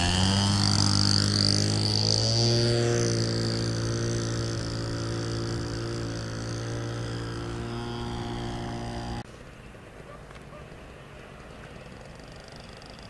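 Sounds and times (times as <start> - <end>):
model airplane motor drone: 0.0 - 9.3, 11.4 - 13.0.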